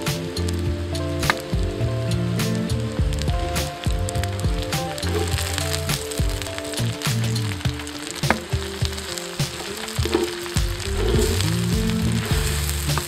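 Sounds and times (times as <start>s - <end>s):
low steady music tones: 0.0s - 13.0s
cabbage sizzling in a hot pan: 2.2s - 13.0s.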